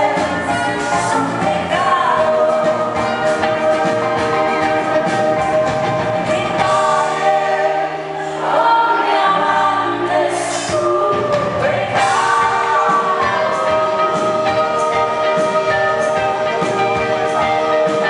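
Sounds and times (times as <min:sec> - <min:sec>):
acoustic guitar: 0:00.0 - 0:18.0
electric guitar: 0:00.0 - 0:18.0
keyboards: 0:00.0 - 0:18.0.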